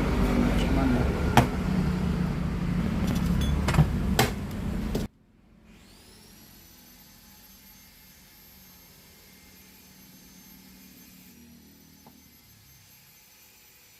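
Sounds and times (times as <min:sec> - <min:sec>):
workshop machine noise: 0:00.0 - 0:13.9.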